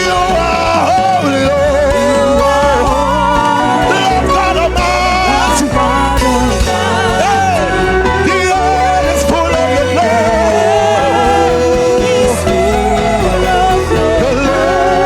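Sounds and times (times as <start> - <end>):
gospel band playing: 0.0 - 15.0.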